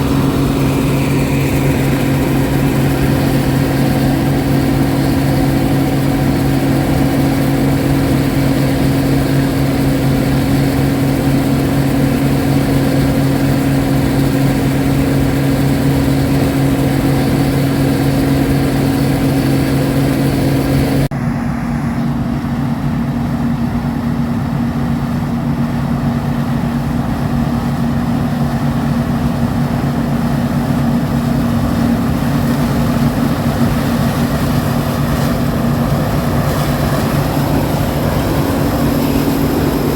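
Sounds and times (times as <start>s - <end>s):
farm machinery engine running: 0.0s - 39.9s.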